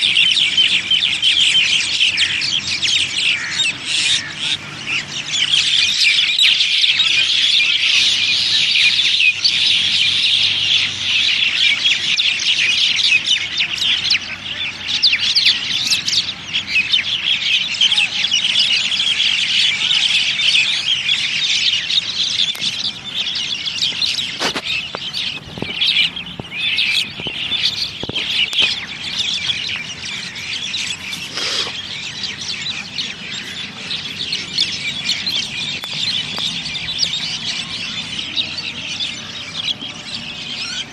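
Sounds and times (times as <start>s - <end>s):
birds chirping and chattering: 0.0s - 40.9s.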